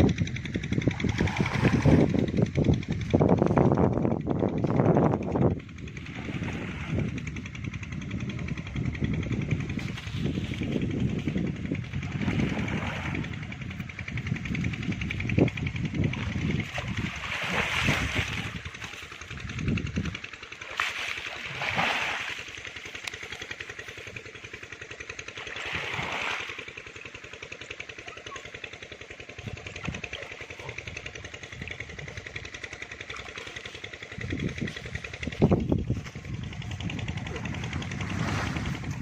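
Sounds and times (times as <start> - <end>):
small engine running: 0.0 - 39.0.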